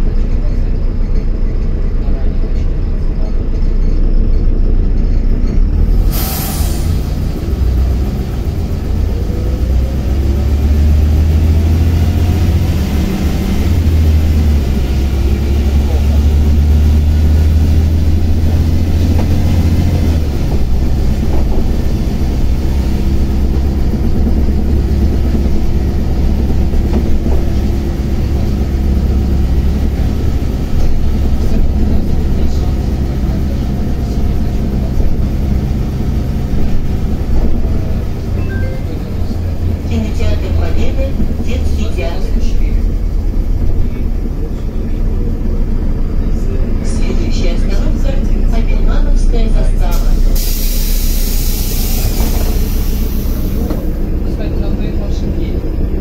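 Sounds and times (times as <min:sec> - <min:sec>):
bus engine and road rumble: 0:00.0 - 0:56.0
drivetrain whine: 0:00.0 - 0:56.0.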